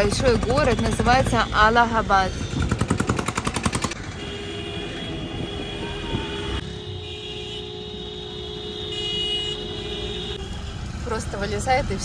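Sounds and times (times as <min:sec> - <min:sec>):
street traffic road noise: 0:00.0 - 0:12.0.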